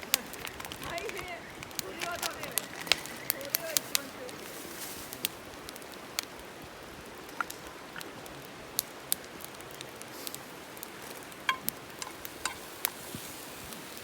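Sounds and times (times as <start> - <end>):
campfire crackling and popping: 0.0 - 14.0
soft steady hiss: 0.0 - 14.0.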